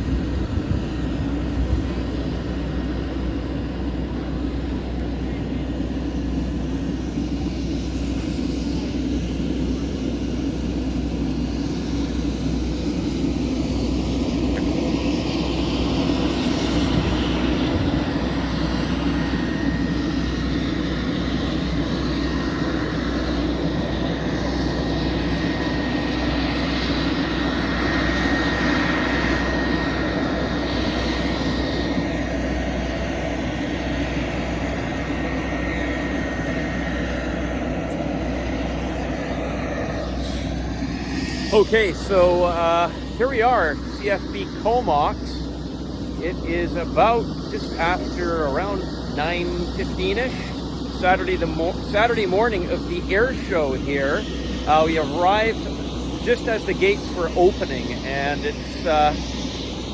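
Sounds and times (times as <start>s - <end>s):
aircraft engines running: 0.0s - 59.9s
thin steady whine: 0.0s - 59.9s.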